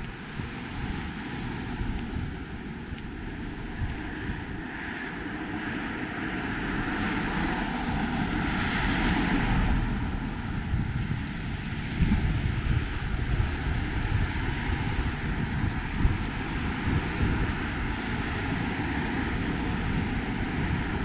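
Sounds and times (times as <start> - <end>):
low rumble: 0.0 - 21.0
vehicle passing: 0.0 - 21.0.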